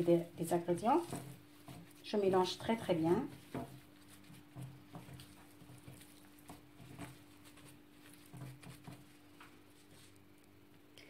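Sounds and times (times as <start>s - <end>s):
hands kneading minced meat: 0.0s - 10.9s.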